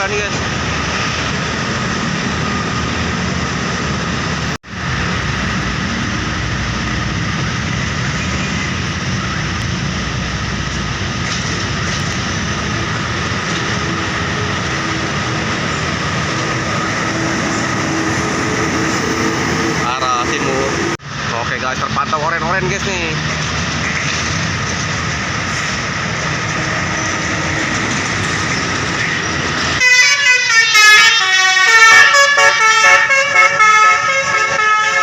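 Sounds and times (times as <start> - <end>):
steady engine drone: 0.0 - 29.8
heavy road traffic: 0.0 - 35.0.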